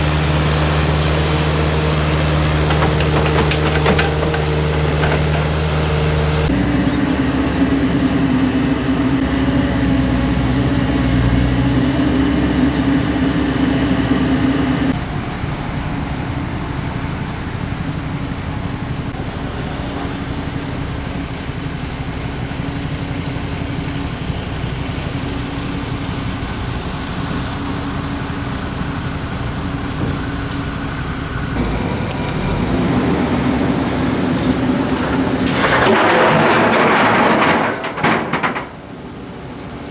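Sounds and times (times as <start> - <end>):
diesel excavator engine: 0.0 - 39.9
tractor pulling trailer: 0.0 - 39.9.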